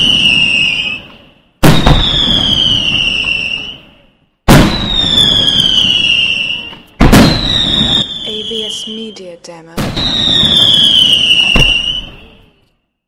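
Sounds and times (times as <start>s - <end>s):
firework bangs: 0.0s - 12.6s
firework descending whistle: 0.0s - 13.0s.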